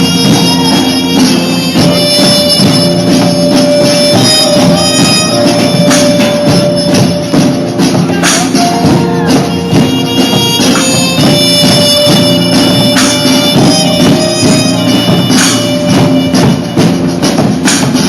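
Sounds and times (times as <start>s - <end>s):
drumline drum strokes: 0.0s - 18.0s
sustained melody notes: 0.0s - 18.0s.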